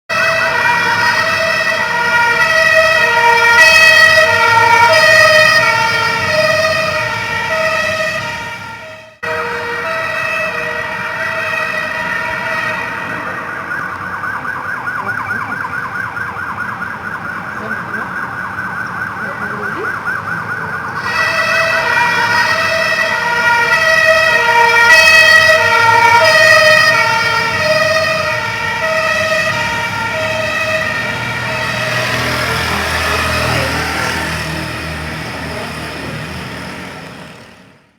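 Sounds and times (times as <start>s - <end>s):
fire truck siren: 0.0s - 37.9s.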